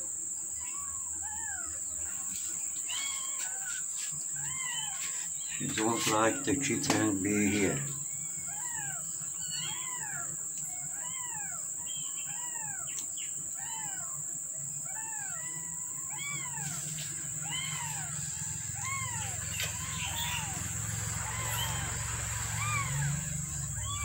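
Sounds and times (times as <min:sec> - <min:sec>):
kittens mewing: 0:02.8 - 0:03.8, 0:04.4 - 0:12.9, 0:13.6 - 0:14.2, 0:14.8 - 0:24.0.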